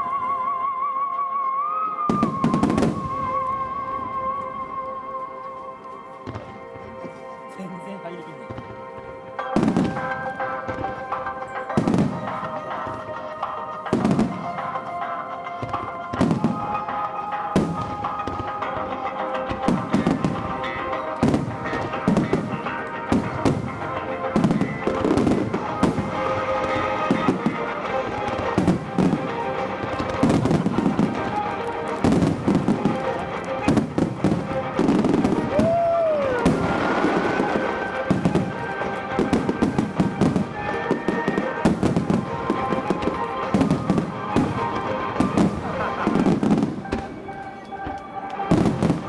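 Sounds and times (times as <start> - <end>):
music playing: 0.0 - 49.0
fireworks shells bursting: 8.5 - 49.0.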